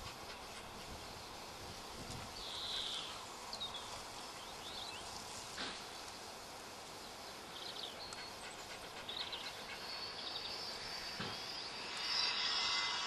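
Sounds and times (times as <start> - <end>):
high hiss: 0.0 - 13.0.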